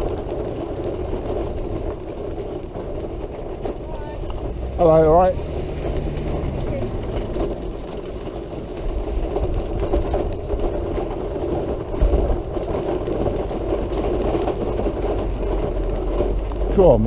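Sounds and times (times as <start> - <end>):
wheelchair rattling rumble: 0.0 - 17.0.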